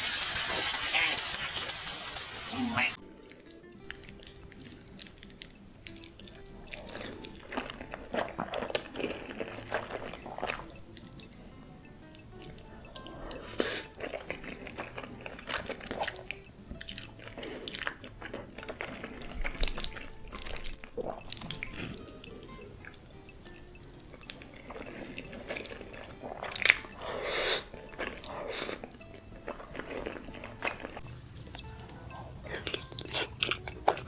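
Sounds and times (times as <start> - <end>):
chewing with wet smacks: 2.8 - 34.0.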